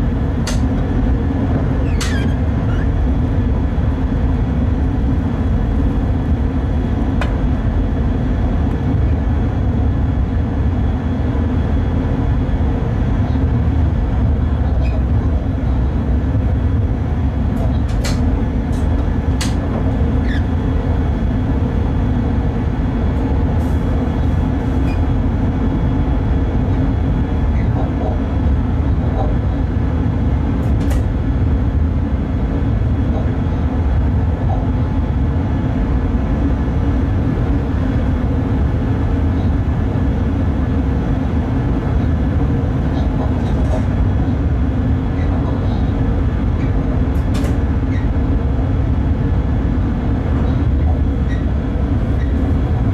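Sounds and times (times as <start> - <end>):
locomotive cab rumble: 0.0 - 52.9.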